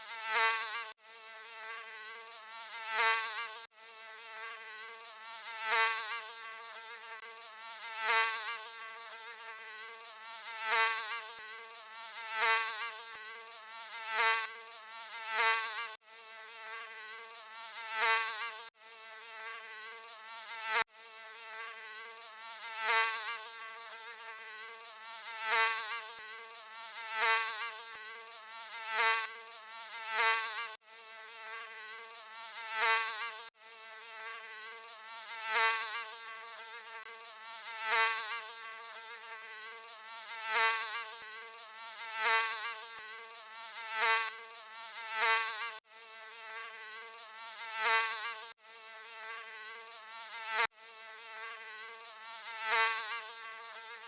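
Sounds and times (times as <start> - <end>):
mosquito buzzing: 0.0 - 54.0.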